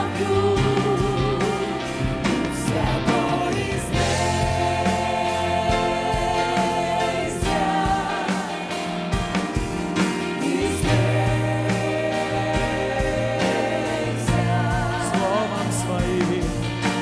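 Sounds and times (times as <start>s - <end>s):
singers holding long notes: 0.0s - 16.6s
bass: 0.0s - 17.0s
keyboard: 0.0s - 17.0s.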